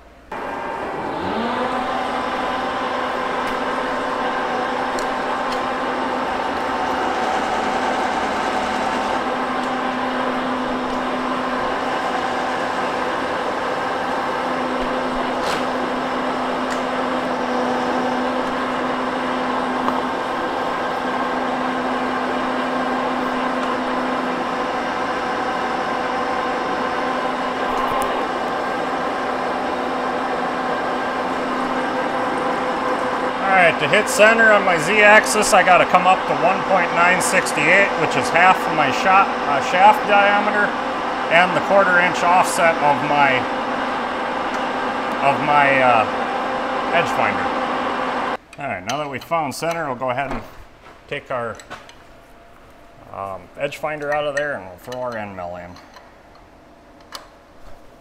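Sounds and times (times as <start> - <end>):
milling machine spindle hum: 0.0 - 49.0.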